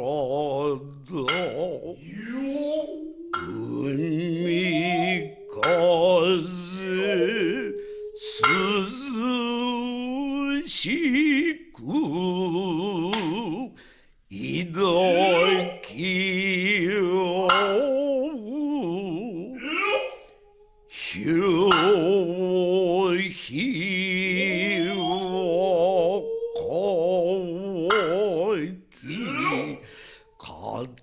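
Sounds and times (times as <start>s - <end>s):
person singing with vibrato: 0.0s - 31.0s.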